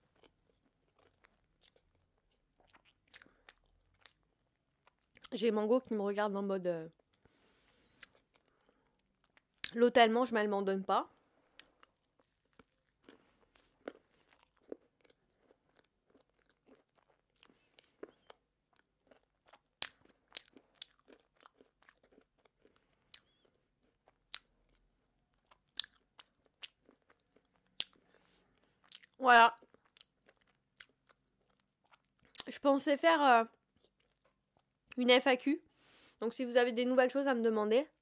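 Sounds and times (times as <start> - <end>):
person chewing cake: 0.0 - 5.3, 6.9 - 9.8, 11.2 - 32.5, 33.6 - 35.0.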